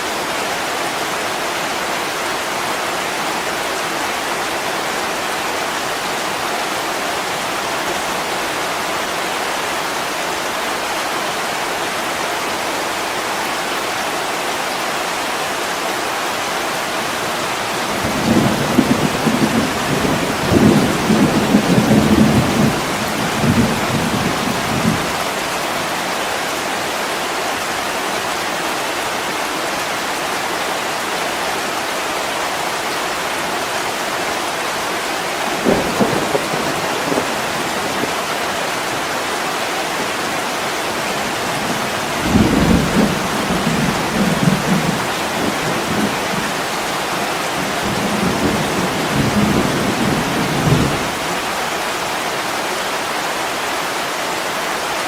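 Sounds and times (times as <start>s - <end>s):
heavy rain against a window: 0.0s - 55.0s.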